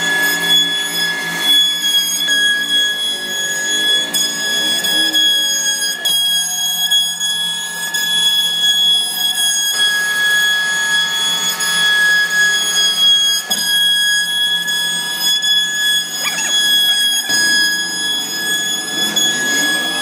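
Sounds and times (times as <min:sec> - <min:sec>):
router spindle high-pitched whine: 0:00.0 - 0:20.0.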